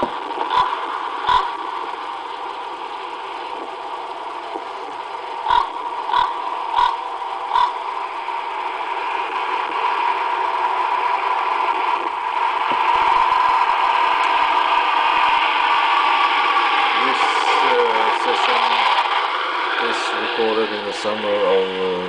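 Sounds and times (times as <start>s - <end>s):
hiss and hum of a recording: 0.0s - 22.0s.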